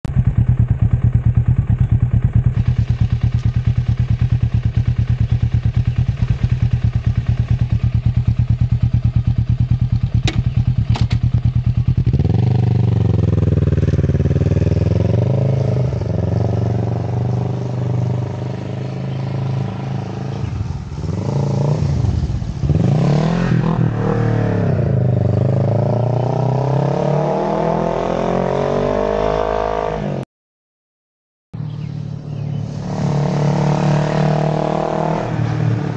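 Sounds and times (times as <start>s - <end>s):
motorcycle engine idling and revving: 0.0s - 30.2s, 31.6s - 35.9s.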